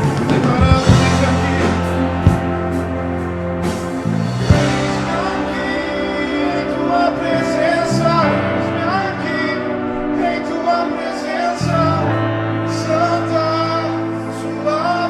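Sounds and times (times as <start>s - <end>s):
live worship band music: 0.0s - 15.0s
person singing melody: 0.0s - 15.0s.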